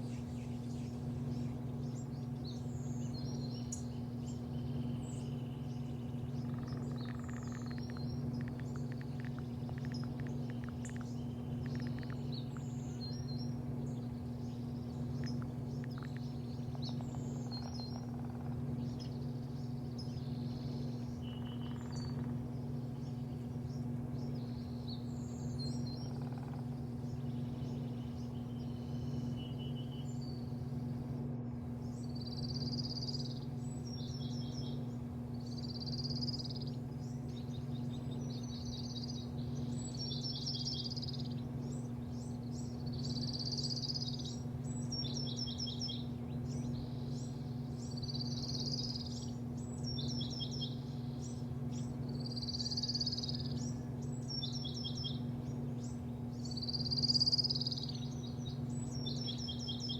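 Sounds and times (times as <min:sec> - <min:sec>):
birds chirping: 0:00.0 - 0:59.9
low machine hum: 0:00.0 - 0:59.9.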